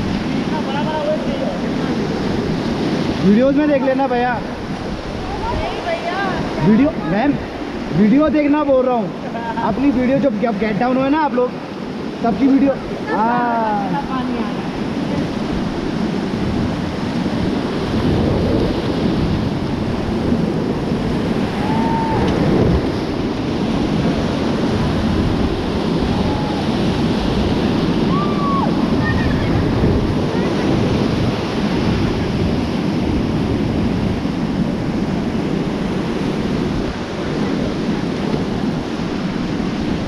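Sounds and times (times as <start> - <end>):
river rapids rushing: 0.0 - 40.0
wind buffeting microphone: 0.0 - 40.0.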